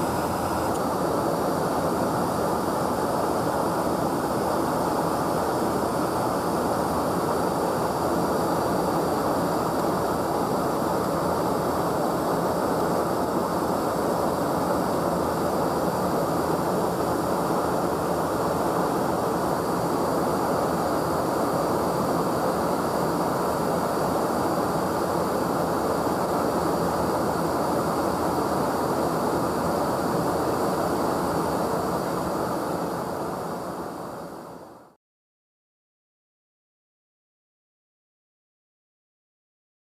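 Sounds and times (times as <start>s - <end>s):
jet in-flight rush: 0.0s - 35.0s.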